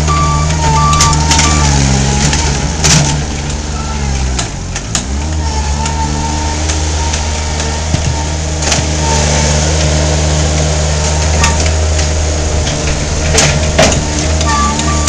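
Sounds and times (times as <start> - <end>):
small engine running under load: 0.0 - 15.0.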